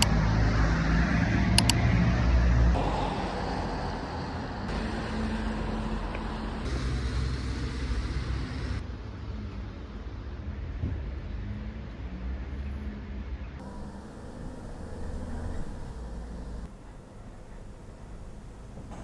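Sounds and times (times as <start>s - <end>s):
road traffic rumble: 0.0s - 12.6s, 13.2s - 19.0s.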